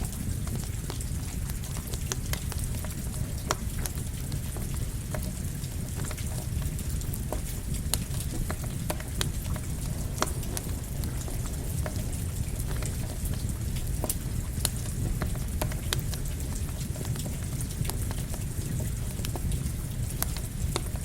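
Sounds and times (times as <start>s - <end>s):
campfire crackles and pops: 0.0s - 21.0s
rain hiss and rumble: 0.0s - 21.0s.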